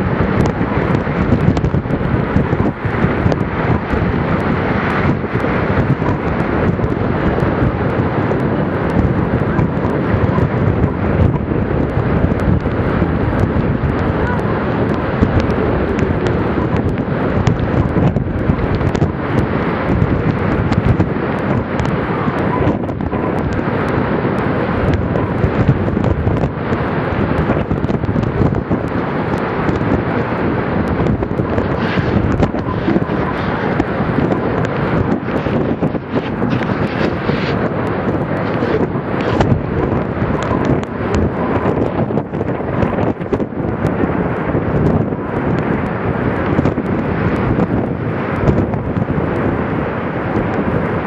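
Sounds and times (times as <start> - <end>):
heavy waves: 0.0 - 51.0
rough surf: 0.0 - 51.0
wind buffeting microphone: 0.0 - 51.0.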